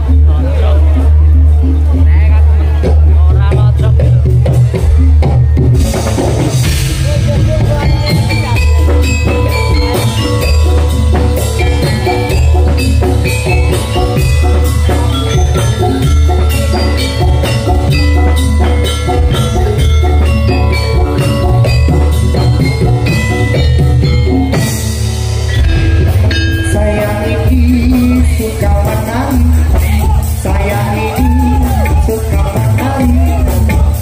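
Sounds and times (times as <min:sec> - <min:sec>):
heavy steady drum beats: 0:00.0 - 0:34.0
metallophones playing running pattern: 0:00.0 - 0:34.0.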